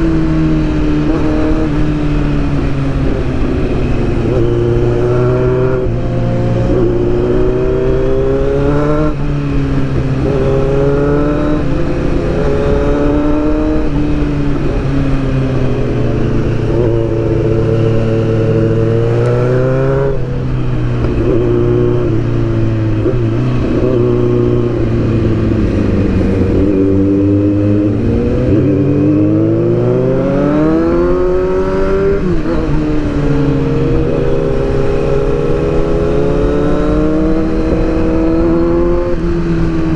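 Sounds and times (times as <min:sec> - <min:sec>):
low wind rush: 0:00.0 - 0:39.9
motorcycle engine revving: 0:00.0 - 0:39.9.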